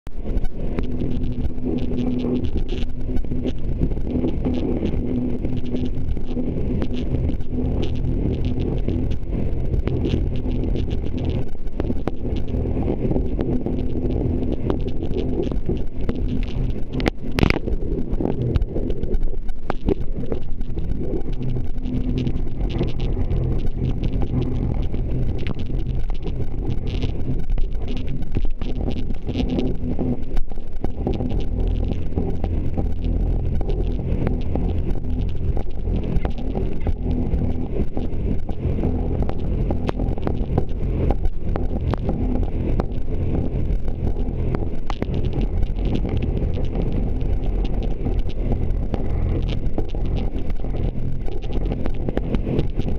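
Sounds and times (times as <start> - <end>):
jet ski engine drone: 0.1 - 52.9.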